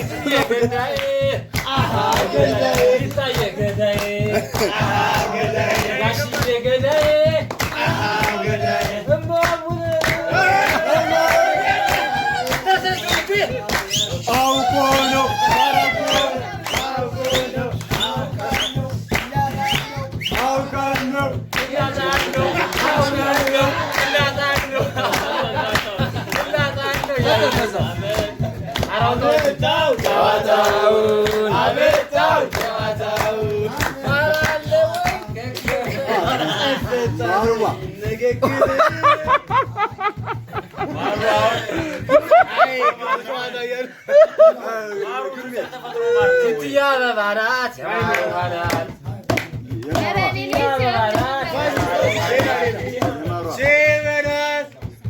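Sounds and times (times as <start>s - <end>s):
hand clapping: 0.0s - 43.0s, 48.0s - 54.9s
group of people singing: 0.0s - 55.0s.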